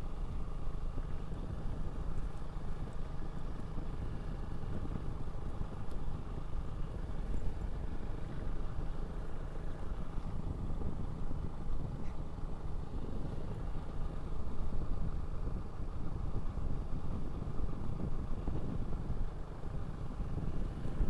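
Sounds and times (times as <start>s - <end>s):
motorcycle engine and wind drone: 0.0s - 21.0s.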